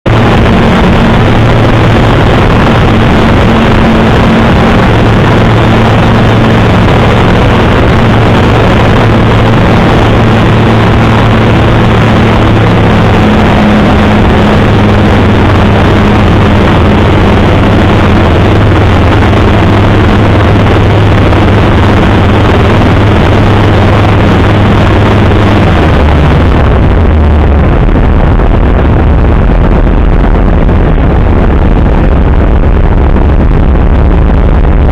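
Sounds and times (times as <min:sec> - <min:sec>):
light aircraft engine: 0:00.0 - 0:34.9.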